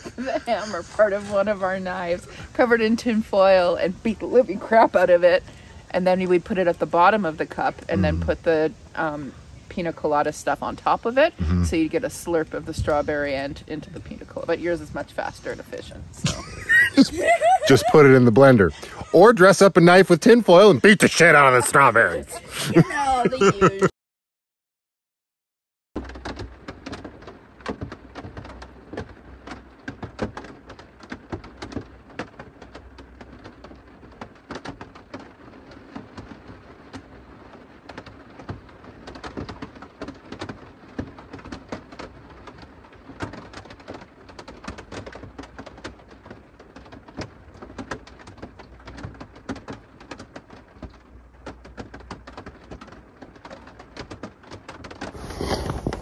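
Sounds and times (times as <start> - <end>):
rain pattering on van roof: 0.0 - 23.9, 26.0 - 56.0.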